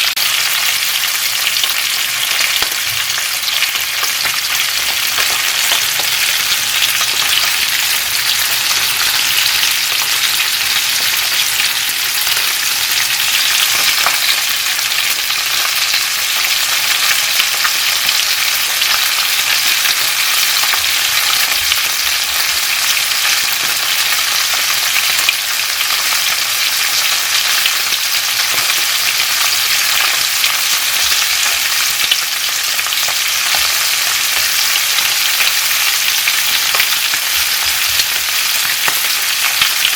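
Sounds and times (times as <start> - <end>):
fish sizzling in oil: 0.0 - 39.9.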